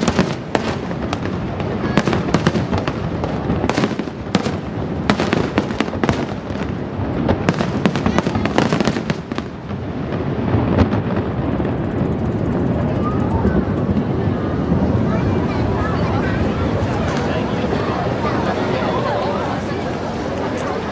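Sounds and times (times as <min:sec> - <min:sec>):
fireworks crackling: 0:00.0 - 0:20.9.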